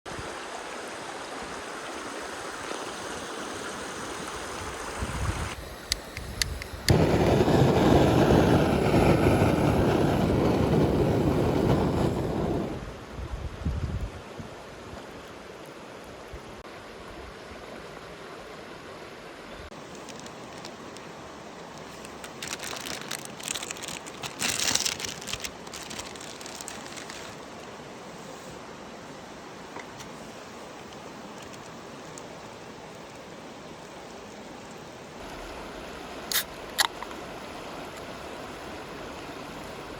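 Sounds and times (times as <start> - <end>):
stream water rushing: 0.1 - 13.3, 14.1 - 39.9.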